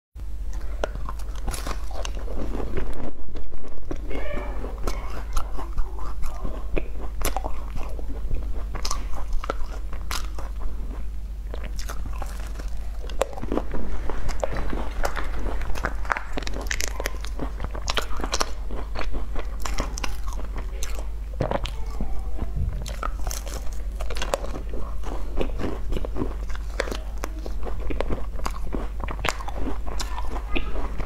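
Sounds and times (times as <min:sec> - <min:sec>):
chewing crisp pastry: 0:00.5 - 0:31.0.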